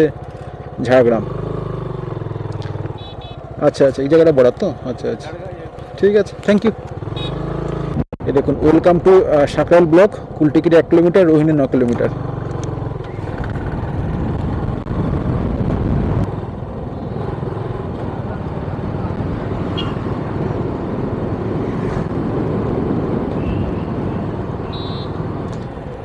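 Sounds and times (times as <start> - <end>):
motorcycle engine rumble: 0.0 - 26.0
road noise: 0.0 - 26.0.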